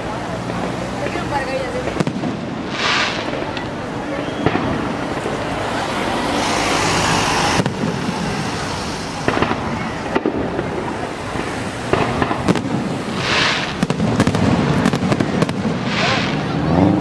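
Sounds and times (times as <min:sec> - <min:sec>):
fireworks bursts rumbling: 0:00.0 - 0:17.0
fireworks sharp bangs: 0:00.0 - 0:17.0
hissing crackling flares: 0:00.0 - 0:17.0.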